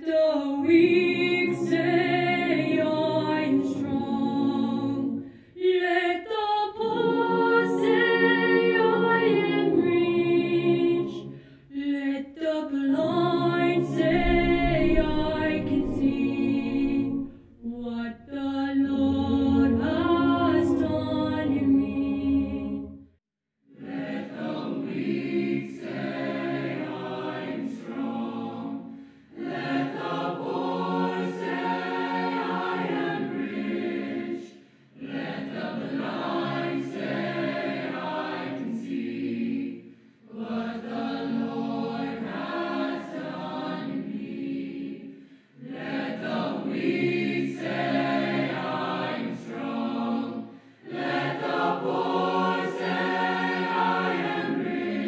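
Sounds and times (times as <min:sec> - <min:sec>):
mixed choir singing a cappella: 0:00.0 - 0:23.0, 0:23.7 - 0:55.0.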